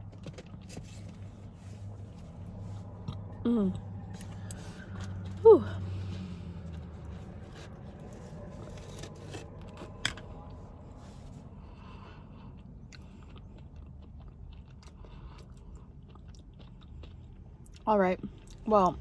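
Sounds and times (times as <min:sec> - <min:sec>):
chewing food: 0:00.0 - 0:18.7
low steady hum: 0:00.0 - 0:19.0.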